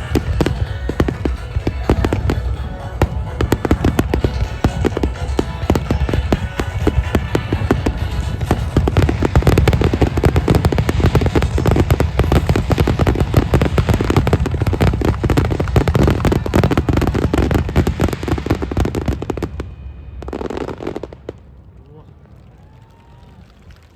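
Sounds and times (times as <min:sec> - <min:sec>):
heavy rumble: 0:00.0 - 0:20.2
fireworks bangs and crackle: 0:00.0 - 0:23.9.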